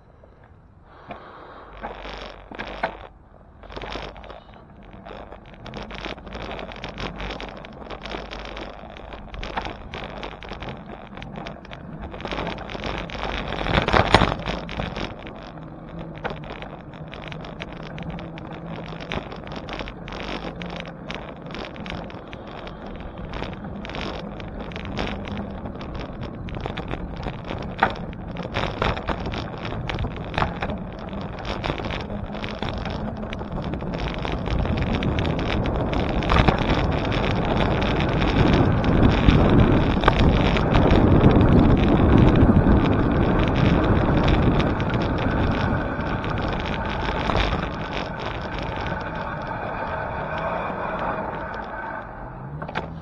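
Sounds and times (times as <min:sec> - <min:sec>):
bicycle rattles and clicks: 0:00.0 - 0:53.0
road rumble: 0:00.0 - 0:53.0
wind rushing over microphone: 0:00.0 - 0:53.0.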